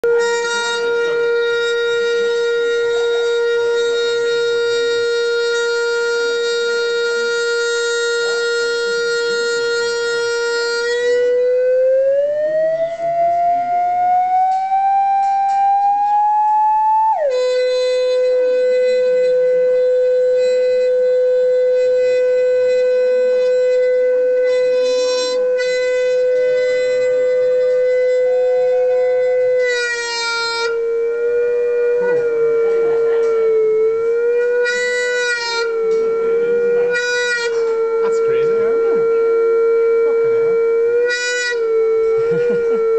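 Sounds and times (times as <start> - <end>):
gliding test tone: 0.0 - 42.9.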